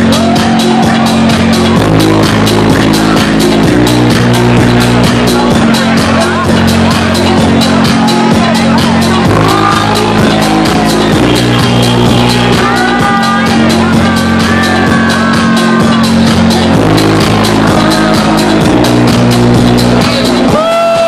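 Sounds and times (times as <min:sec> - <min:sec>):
electronic dance music: 0:00.0 - 0:21.0.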